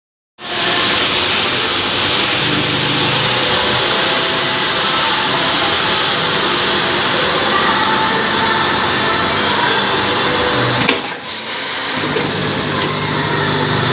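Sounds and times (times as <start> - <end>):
packing machine running: 0.4 - 13.9.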